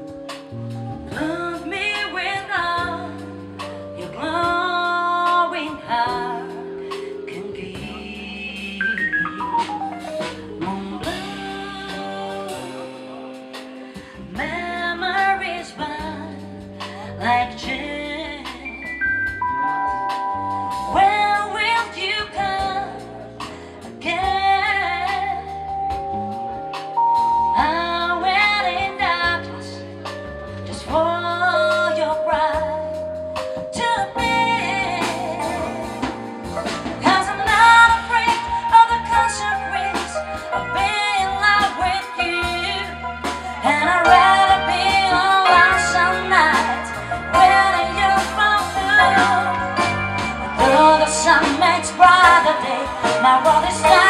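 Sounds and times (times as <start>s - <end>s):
drum kit: 0.0s - 54.0s
electric bass: 0.0s - 54.0s
woman singing with vibrato: 1.1s - 3.3s, 4.0s - 9.7s, 10.6s - 20.0s, 20.7s - 23.3s, 27.4s - 29.9s, 30.7s - 33.0s, 33.7s - 36.2s, 36.9s - 54.0s.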